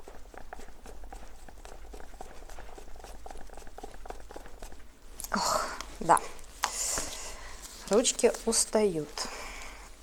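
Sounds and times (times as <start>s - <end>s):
stick stirring thick liquid in cup: 0.0s - 9.8s.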